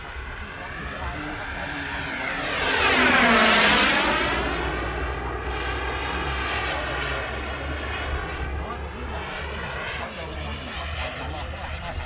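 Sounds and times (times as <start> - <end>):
model airplane engine flying past: 0.0 - 12.0.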